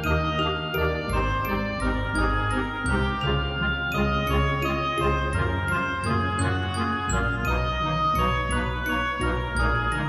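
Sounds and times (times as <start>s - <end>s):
tinkling bell-like music: 0.0s - 10.0s.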